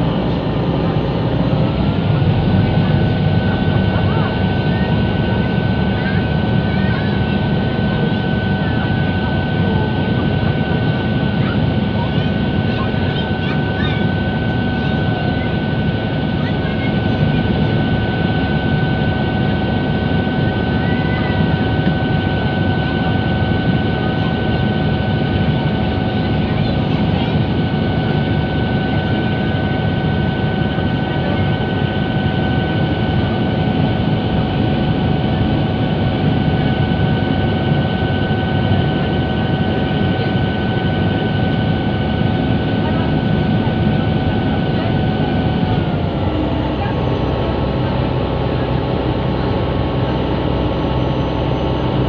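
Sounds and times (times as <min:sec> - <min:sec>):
engine whine: 0:00.0 - 0:52.0
ferry engines droning: 0:00.0 - 0:52.0.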